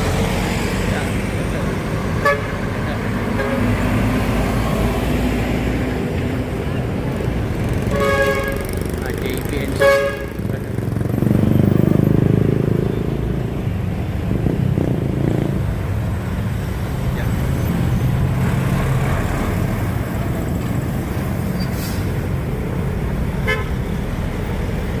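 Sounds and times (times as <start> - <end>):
road traffic noise: 0.0 - 25.0
truck diesel engine passing: 0.0 - 25.0.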